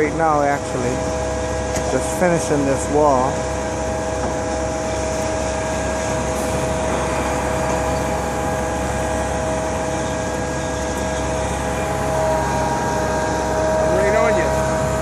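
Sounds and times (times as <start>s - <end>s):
construction machinery engine drone: 0.0s - 15.0s
fixed-pitch machine whine: 0.0s - 15.0s.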